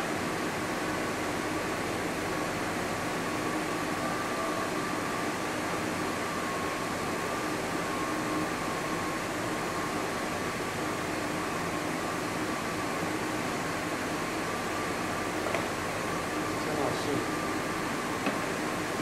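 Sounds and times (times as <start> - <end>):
ventilation hiss and hum: 0.0 - 19.0.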